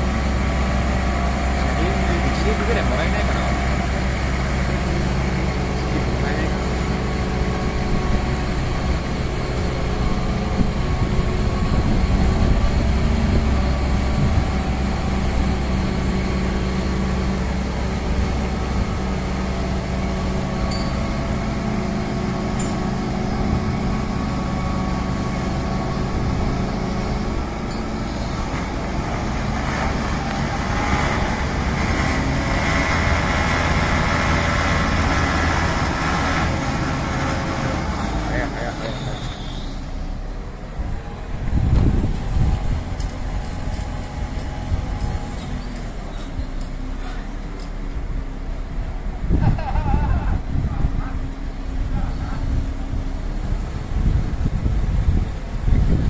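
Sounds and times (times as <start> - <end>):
crane engine humming: 0.0 - 56.0.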